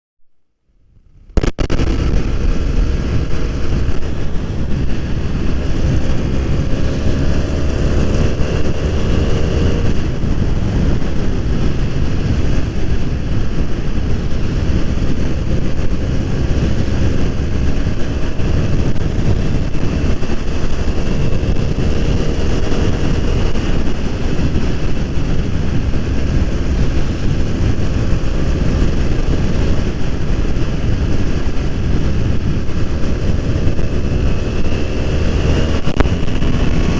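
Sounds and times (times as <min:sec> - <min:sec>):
wind noise on microphone: 0:00.8 - 0:36.9
motorcycle engine revving: 0:01.0 - 0:36.9.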